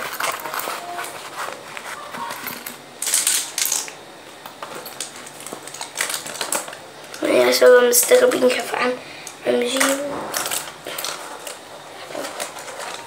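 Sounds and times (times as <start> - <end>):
stationery clicking and rattling: 0.0 - 8.5, 9.6 - 13.0.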